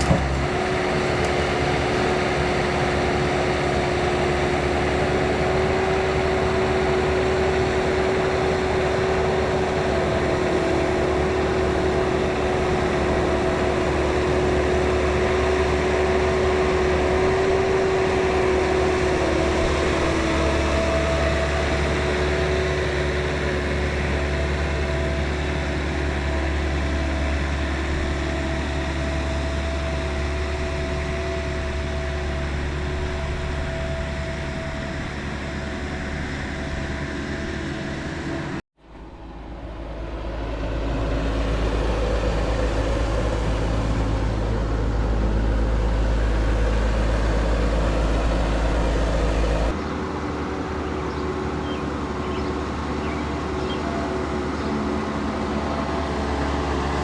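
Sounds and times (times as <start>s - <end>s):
loader engine drone: 0.0s - 57.0s
steady whine: 0.0s - 57.0s.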